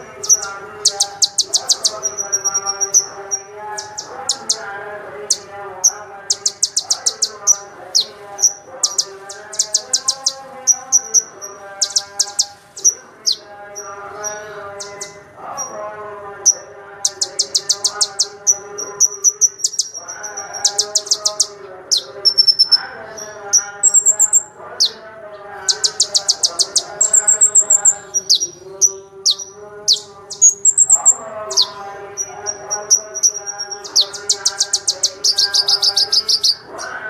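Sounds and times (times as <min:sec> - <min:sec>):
bird trilling and chirping: 0:00.0 - 0:37.0.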